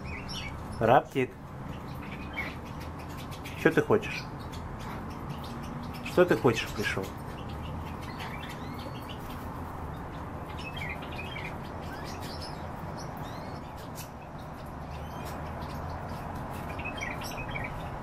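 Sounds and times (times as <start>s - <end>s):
bird high chirping calls: 0.0s - 18.0s.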